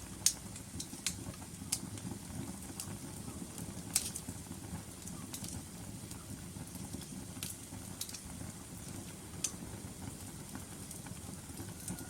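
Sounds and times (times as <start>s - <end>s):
logs crackling and popping: 0.0s - 12.0s
low rumble of flames: 0.0s - 12.0s.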